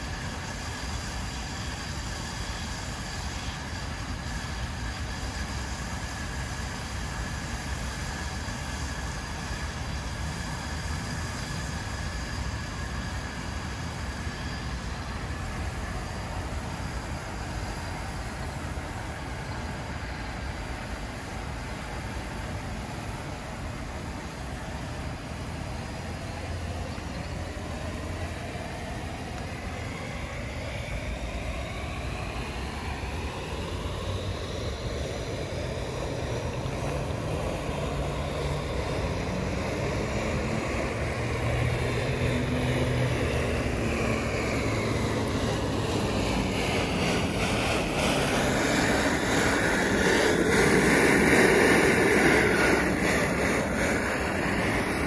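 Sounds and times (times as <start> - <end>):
passing engine drone: 5.5 - 55.0.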